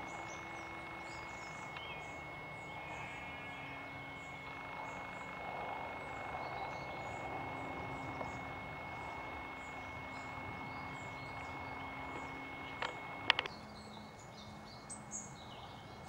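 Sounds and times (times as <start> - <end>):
small bird chirping: 0.0 - 14.1
outdoor background noise: 0.0 - 16.0.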